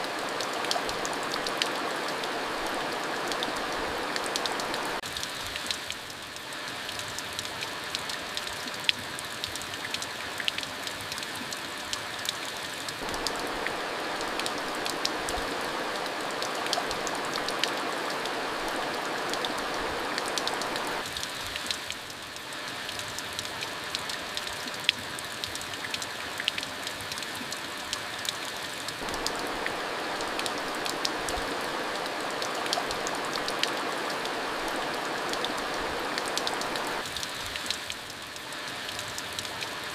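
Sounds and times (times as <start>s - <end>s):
raindrops tapping close by: 0.0s - 39.8s
steady rain hissing: 0.0s - 39.9s.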